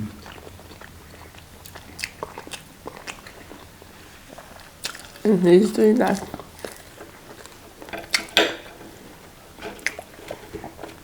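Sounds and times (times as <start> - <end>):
chewing food crunches: 0.0 - 11.0.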